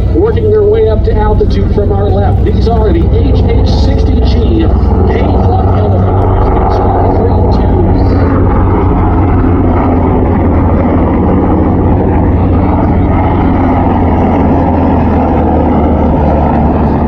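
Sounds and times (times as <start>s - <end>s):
helicopters flying by: 0.0s - 17.0s.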